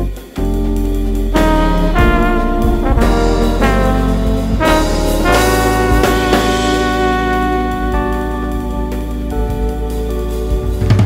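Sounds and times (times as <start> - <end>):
bass line: 0.0 - 11.0
drums: 0.0 - 11.0
trombone melody: 0.0 - 11.0.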